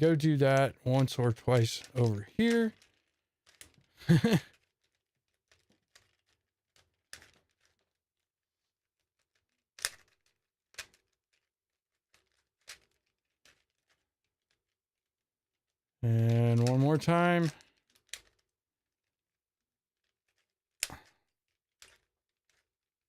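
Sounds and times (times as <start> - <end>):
puzzle cube plastic clicks: 0.2 - 14.8, 15.6 - 19.0, 20.0 - 22.8.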